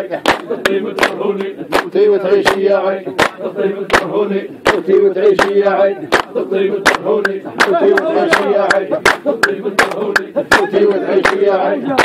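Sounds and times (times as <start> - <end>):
men singing folk song: 0.0 - 12.0
hand claps: 0.1 - 12.0.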